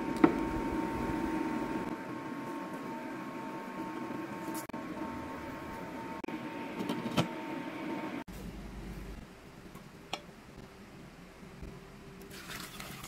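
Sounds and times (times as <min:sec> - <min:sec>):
cooktop hum with high whine: 0:00.0 - 0:13.0.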